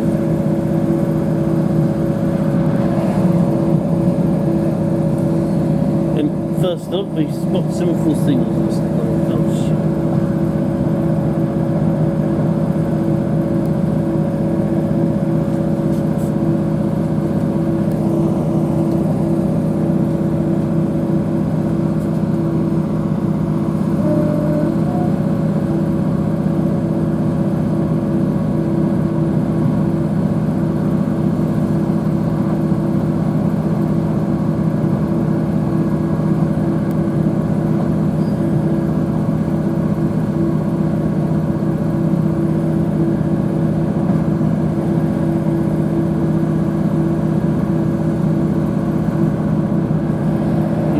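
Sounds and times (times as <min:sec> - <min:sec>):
rumble of running train: 0:00.0 - 0:50.9
train engine drone: 0:00.0 - 0:50.9.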